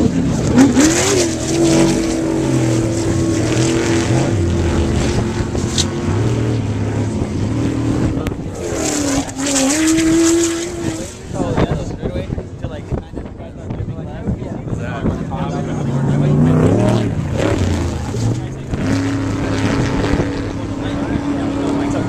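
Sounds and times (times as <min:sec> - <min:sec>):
race vehicle engines revving: 0:00.0 - 0:22.0.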